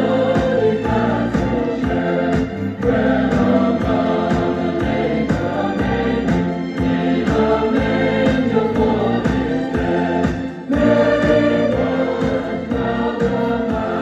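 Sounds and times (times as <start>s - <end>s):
choral christmas music: 0.0s - 14.0s.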